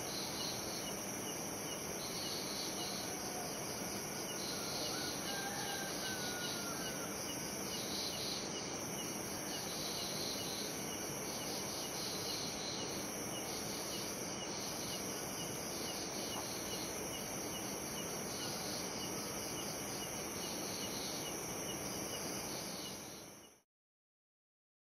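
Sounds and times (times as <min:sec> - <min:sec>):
night insects chirping: 0:00.0 - 0:23.6.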